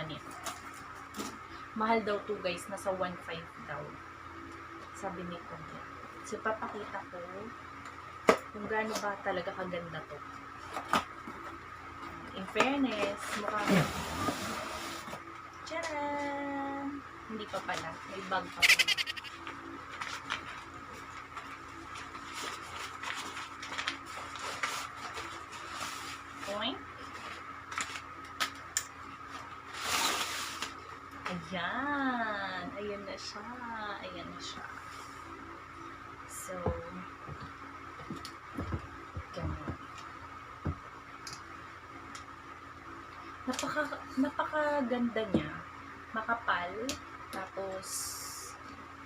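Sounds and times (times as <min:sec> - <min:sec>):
steady background hum: 0:00.0 - 0:49.0.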